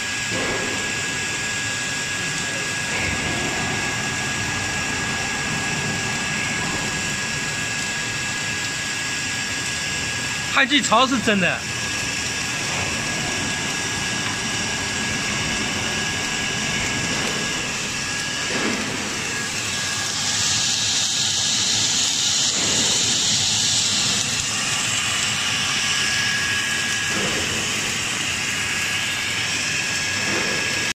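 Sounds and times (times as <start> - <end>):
welding hiss with high whine: 0.0 - 30.9.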